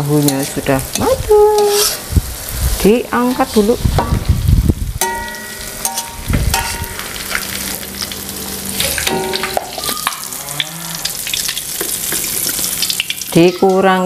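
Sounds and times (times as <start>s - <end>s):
utensils scraping a wok: 0.0s - 3.7s, 5.0s - 10.4s, 11.0s - 13.9s
oil sizzling in a wok: 0.0s - 14.0s.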